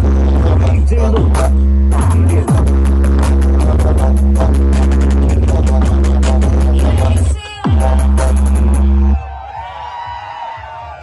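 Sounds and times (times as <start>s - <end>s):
bass-heavy funk music: 0.0s - 11.0s.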